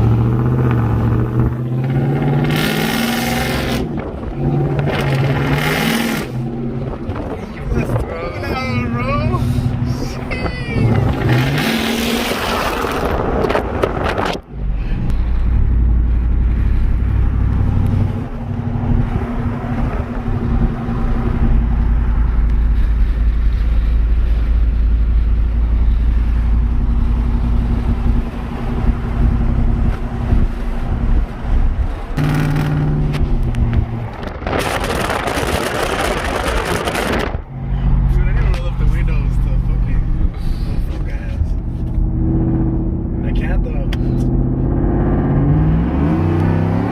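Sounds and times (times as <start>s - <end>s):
truck engine droning: 0.0s - 46.9s.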